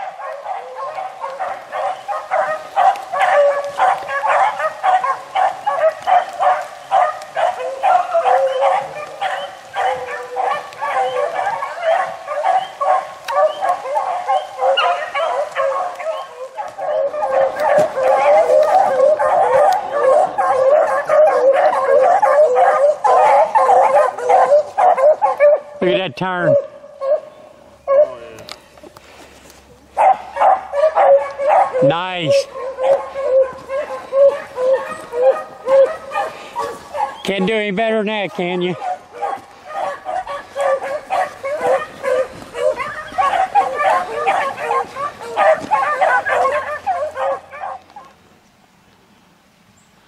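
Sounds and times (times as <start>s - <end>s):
dogs baying: 0.0s - 28.8s, 29.4s - 48.2s.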